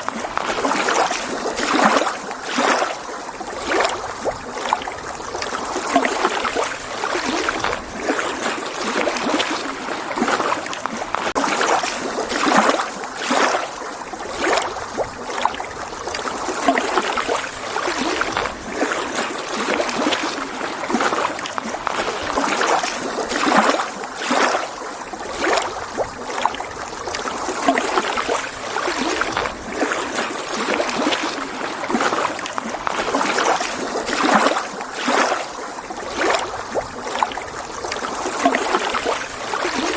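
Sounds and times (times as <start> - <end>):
waves lapping against shore: 0.0 - 39.9.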